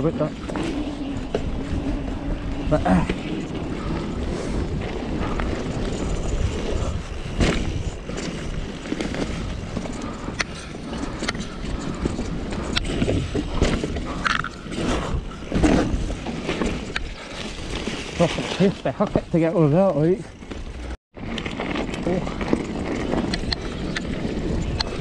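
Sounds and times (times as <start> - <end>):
bike knocking and rattling: 0.0 - 25.0
bike tyre rumble on trail: 0.0 - 25.0.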